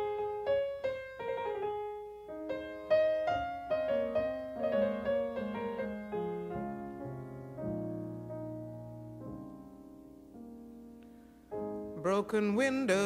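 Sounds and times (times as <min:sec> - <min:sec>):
slow solo piano: 0:00.0 - 0:13.0.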